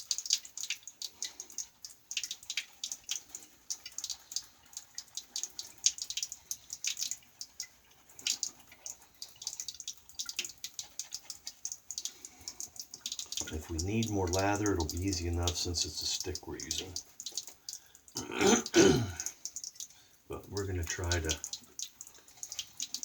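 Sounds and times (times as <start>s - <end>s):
shaving brush lathering soap: 0.0s - 17.9s, 19.1s - 23.0s
wet squishing and crackling clicks: 0.0s - 23.0s.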